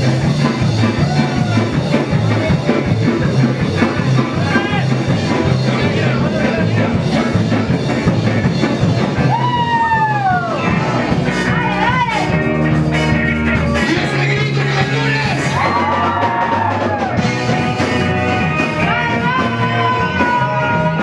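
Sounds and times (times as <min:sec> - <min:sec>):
rock music with guitar and drums: 0:00.0 - 0:21.0.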